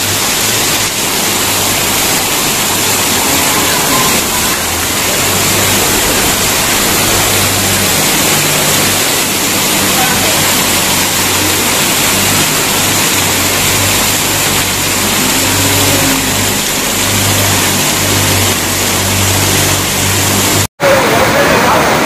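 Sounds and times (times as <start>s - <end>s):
low engine hum: 0.0s - 20.7s
heavy rain pouring: 0.0s - 22.0s.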